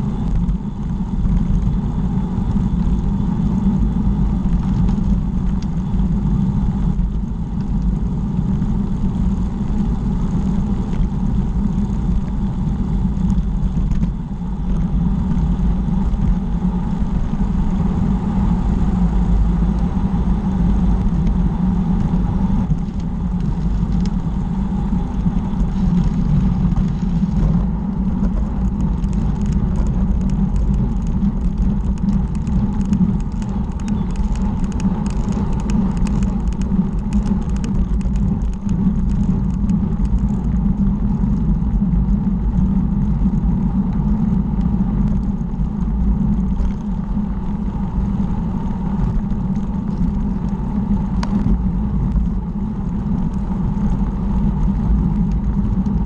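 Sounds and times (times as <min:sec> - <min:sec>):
bicycle tyre noise: 0:00.0 - 0:56.0
wind buffeting microphone: 0:00.0 - 0:56.0.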